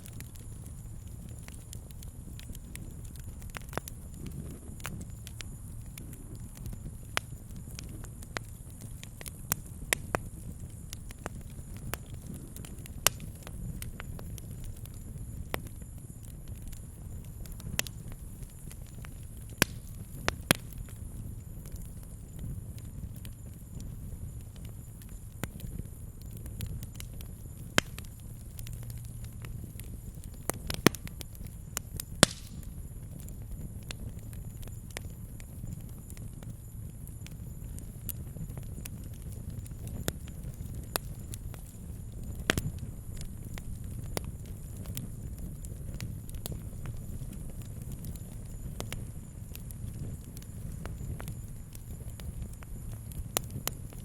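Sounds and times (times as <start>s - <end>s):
campfire pops and snaps: 0.0s - 54.0s
low rumble of burning fire: 0.0s - 54.0s.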